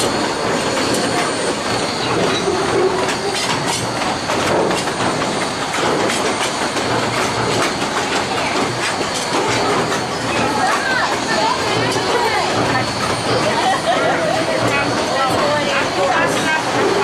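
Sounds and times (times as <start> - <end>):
train wheels rumbling on rail: 0.0 - 17.0
wheels clicking on rail: 0.0 - 17.0.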